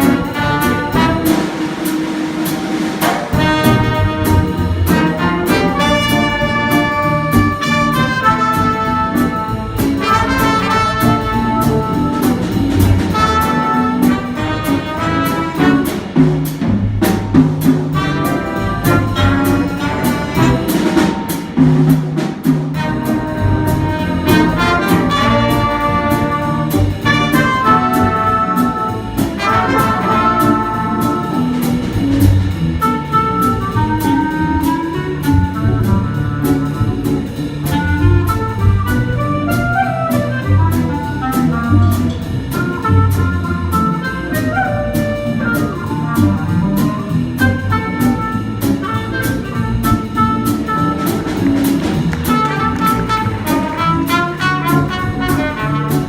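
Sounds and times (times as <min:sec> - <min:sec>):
brass horns melody: 0:00.0 - 0:56.0
jazz combo playing: 0:00.0 - 0:56.0.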